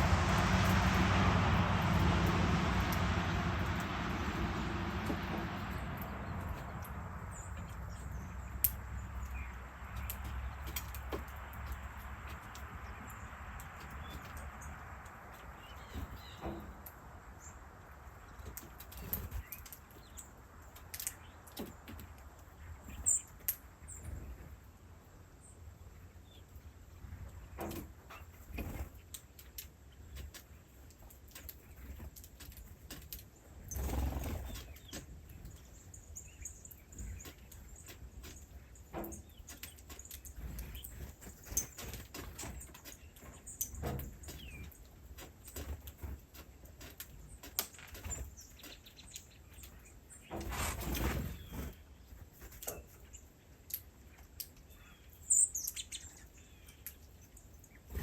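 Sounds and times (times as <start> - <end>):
small birds chirping: 3.7 - 58.0.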